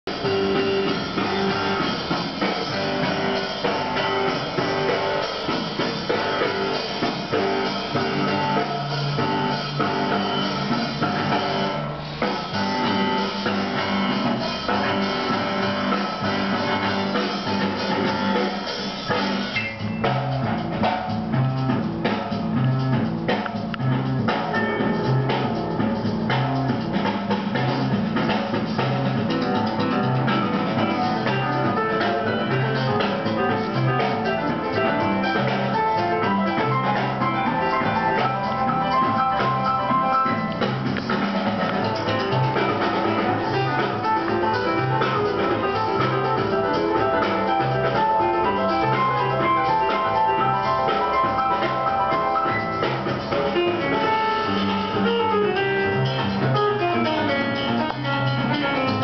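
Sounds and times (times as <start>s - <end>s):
bass line: 0.0s - 59.0s
drum kit: 0.0s - 59.0s
guitar: 0.0s - 59.0s.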